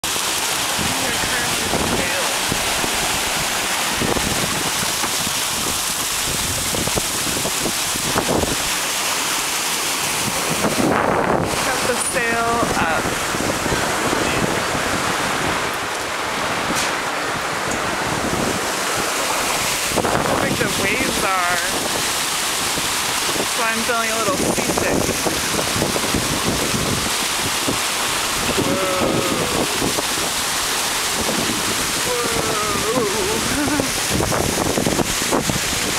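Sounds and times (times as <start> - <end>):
boat wake and choppy sea: 0.0 - 35.9
wind buffeting microphone: 0.6 - 8.8, 10.0 - 35.9.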